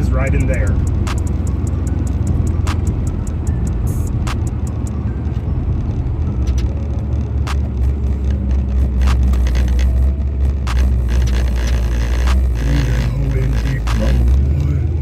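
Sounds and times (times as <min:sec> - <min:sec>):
car engine droning: 0:00.0 - 0:15.0
sharp ticks and rattles: 0:00.0 - 0:15.0.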